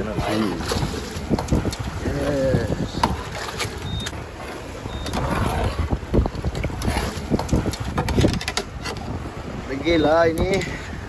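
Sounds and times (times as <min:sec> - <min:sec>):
water sloshing beside boat: 0:00.0 - 0:11.0
wind on microphone: 0:00.0 - 0:11.0.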